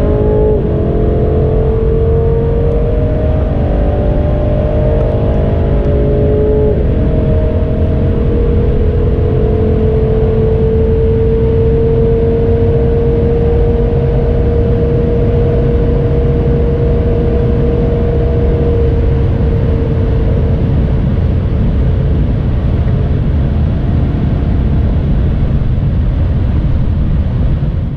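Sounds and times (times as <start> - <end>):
car engine at high speed: 0.0 - 27.9
engine whine: 0.0 - 27.9
wind and tyre roar: 0.0 - 27.9.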